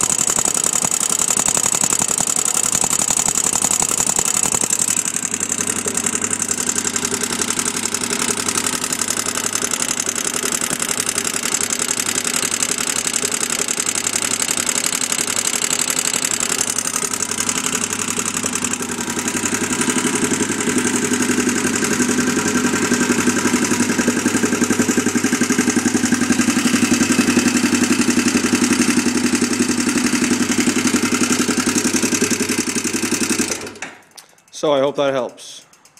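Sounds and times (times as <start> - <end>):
quad bike engine running: 0.0 - 35.9.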